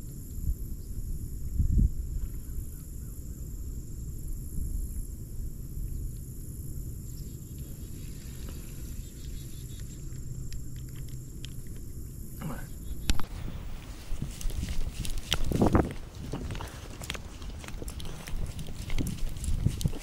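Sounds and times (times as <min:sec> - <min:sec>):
constant low rumble: 0:00.0 - 0:20.0
insects droning: 0:00.0 - 0:20.0.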